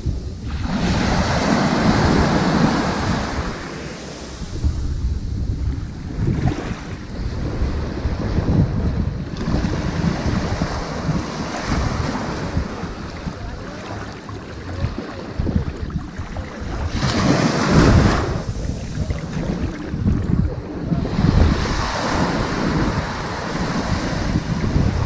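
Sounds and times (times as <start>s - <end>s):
ocean waves washing onto beach: 0.0s - 25.0s.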